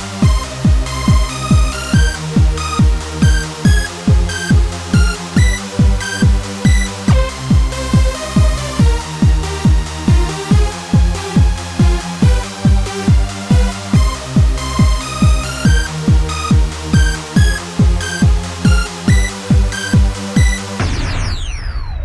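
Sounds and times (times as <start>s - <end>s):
electronic dance music: 0.0s - 21.6s.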